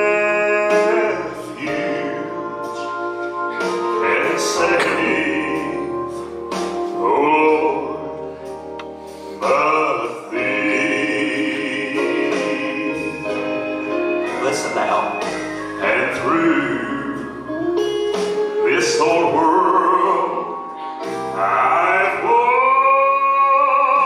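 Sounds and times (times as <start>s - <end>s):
man singing gospel song: 0.0s - 8.3s, 9.4s - 24.0s
musical accompaniment with bass: 0.0s - 24.0s.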